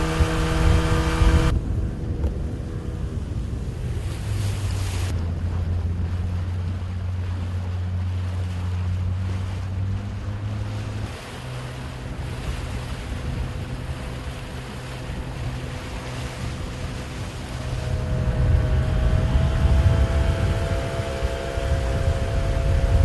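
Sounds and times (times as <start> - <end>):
engine running with low drone: 0.0 - 23.0
wind noise on microphone: 0.0 - 23.0.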